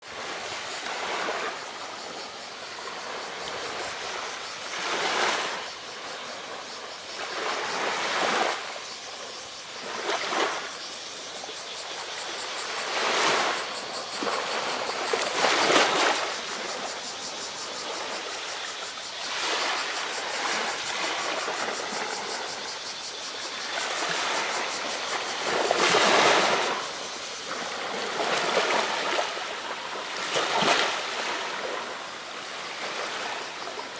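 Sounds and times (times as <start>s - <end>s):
small waves breaking on sand: 0.0s - 33.9s.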